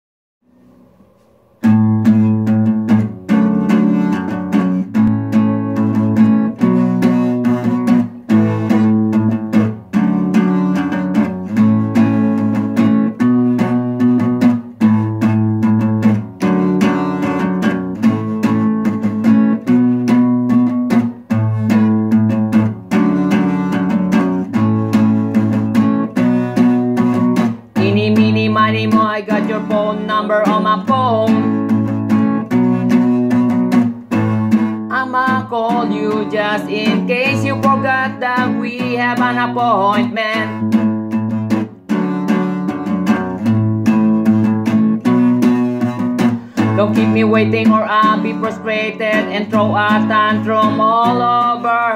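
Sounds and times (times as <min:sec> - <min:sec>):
acoustic guitar strumming chords: 0:00.4 - 0:51.9.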